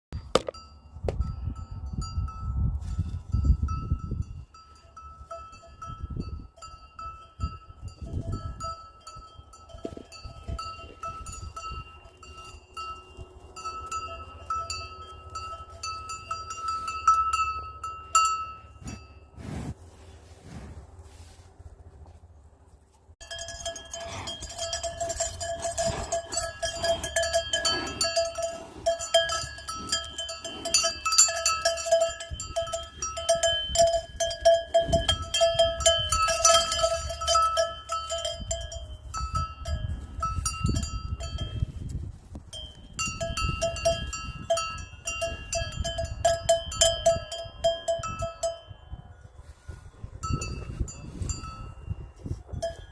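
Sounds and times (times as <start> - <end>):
cowbells clanking: 0.3 - 19.3, 23.2 - 48.9, 50.2 - 52.9.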